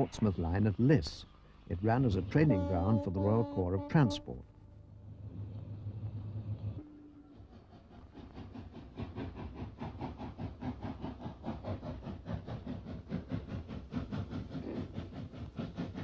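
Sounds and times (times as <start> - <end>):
steam locomotive exhaust beats: 0.0 - 16.0.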